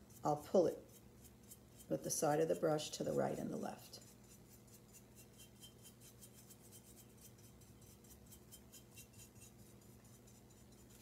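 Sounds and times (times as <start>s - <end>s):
dry paintbrush scratching ceramic: 0.0s - 11.0s
low steady hum: 0.0s - 11.0s.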